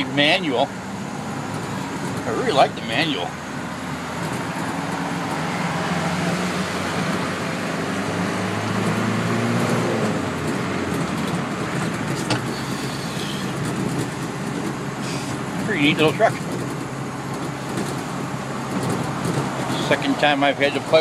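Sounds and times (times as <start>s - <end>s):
diesel truck engine running: 0.0s - 21.0s
tyre noise on wet road: 0.0s - 21.0s.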